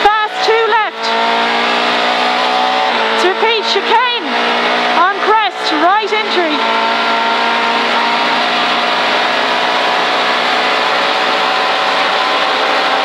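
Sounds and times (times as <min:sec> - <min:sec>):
car engine running: 0:00.0 - 0:13.0
road noise rushing: 0:00.0 - 0:13.0.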